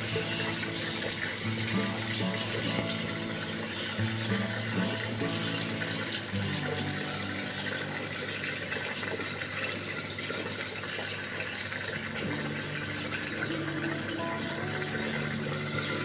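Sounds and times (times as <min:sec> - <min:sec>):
water trickling in a pipe: 0:00.0 - 0:16.0.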